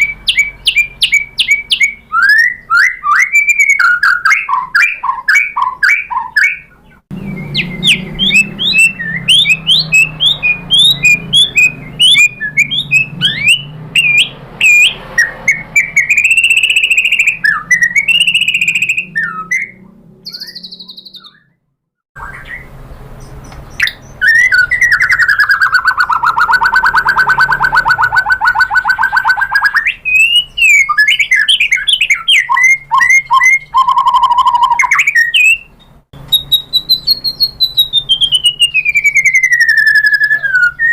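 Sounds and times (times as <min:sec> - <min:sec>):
songbird whistling and trilling: 0:00.0 - 0:21.6, 0:22.2 - 0:40.9.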